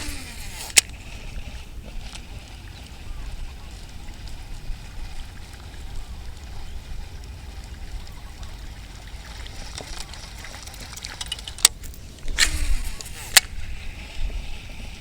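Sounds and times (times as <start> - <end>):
wind buffeting microphone: 0.0 - 10.9, 11.6 - 15.0.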